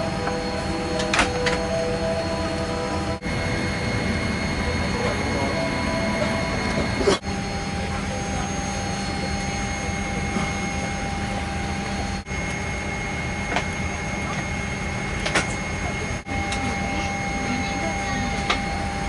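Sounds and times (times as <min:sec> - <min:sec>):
airliner cabin hum with high whine: 0:00.0 - 0:19.0.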